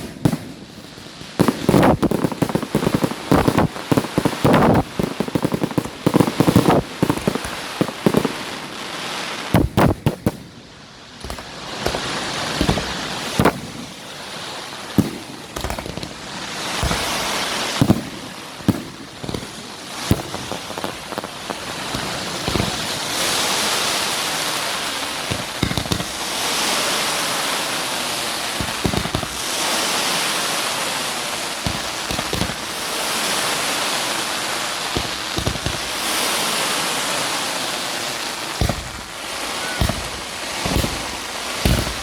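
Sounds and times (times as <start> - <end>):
fireworks bangs: 0.0 - 42.0
fireworks hissing: 0.0 - 42.0.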